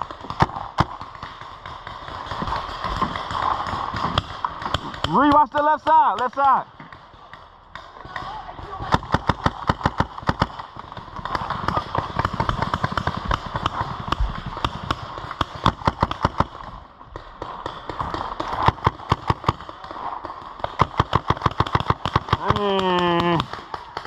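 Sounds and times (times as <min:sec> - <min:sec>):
paintball markers firing: 0:00.0 - 0:24.0.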